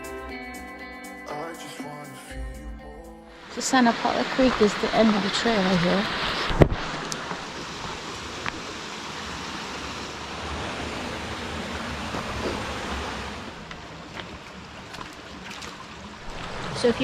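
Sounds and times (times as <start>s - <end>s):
creek water rushing: 3.3s - 17.0s.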